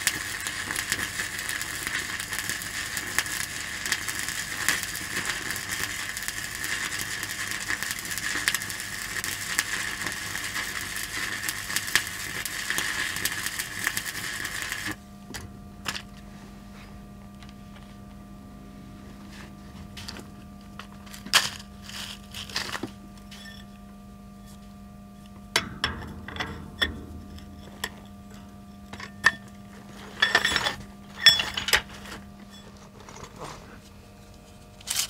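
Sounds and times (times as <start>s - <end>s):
arc welding crackle and pops: 0.0s - 16.3s, 17.2s - 18.3s, 19.1s - 35.0s
steady low hum: 0.0s - 35.0s.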